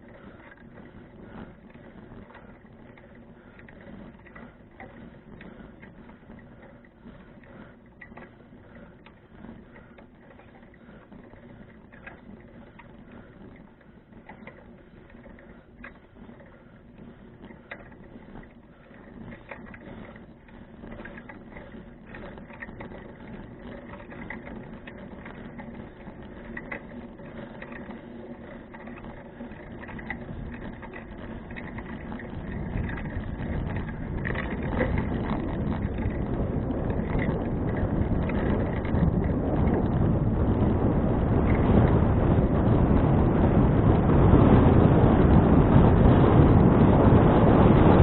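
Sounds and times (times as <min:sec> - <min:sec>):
bicycle clicks and rattles: 0:00.0 - 0:48.0
wind noise on microphone: 0:00.0 - 0:48.0.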